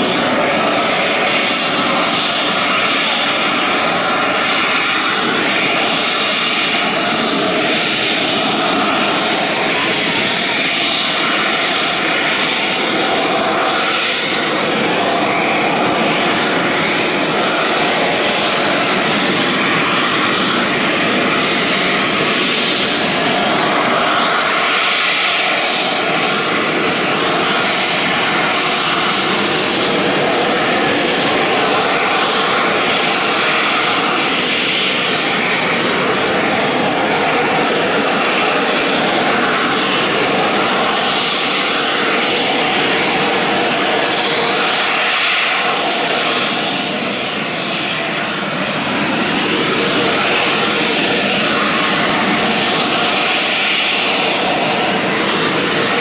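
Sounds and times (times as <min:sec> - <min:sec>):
jet engine roaring: 0:00.0 - 0:56.0.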